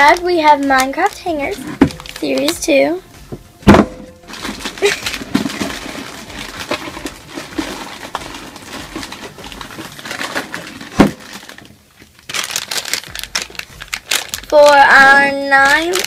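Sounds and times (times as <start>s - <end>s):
plastic packaging crinkling and rattling: 0.0s - 2.9s, 3.7s - 16.0s.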